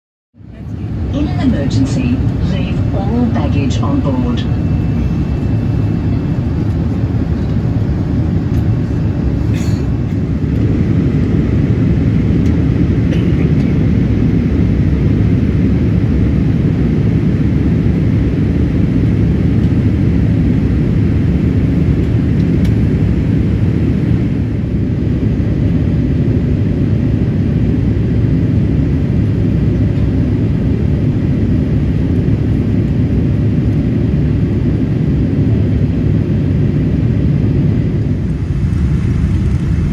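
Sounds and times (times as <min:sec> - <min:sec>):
engines and airflow rumbling: 0:00.4 - 0:39.9.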